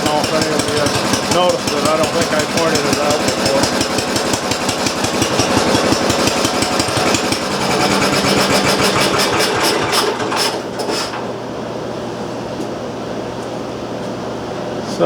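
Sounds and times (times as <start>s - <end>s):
single-cylinder engine running: 0.0s - 12.7s.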